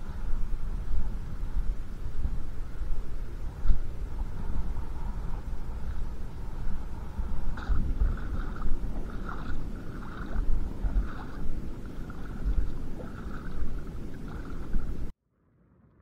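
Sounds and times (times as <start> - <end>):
wind buffeting microphone: 0.0 - 15.1.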